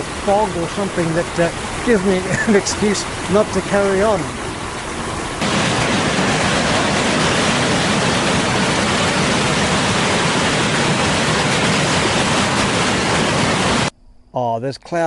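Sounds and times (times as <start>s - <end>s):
creek rushing over rocks: 0.0s - 13.9s.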